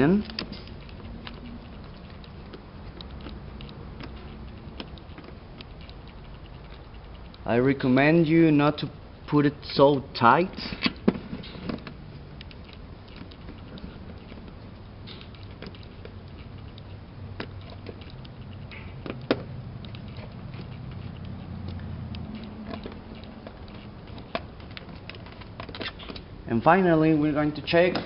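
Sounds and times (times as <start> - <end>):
faint clicks and rattles: 0.0 - 28.0
low steady hum: 0.0 - 28.0.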